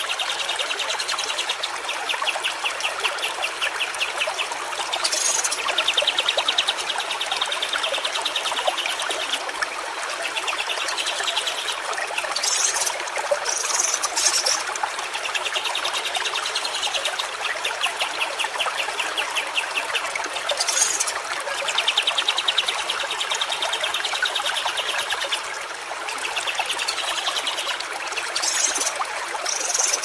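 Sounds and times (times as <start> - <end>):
stream water trickling: 0.0 - 30.0.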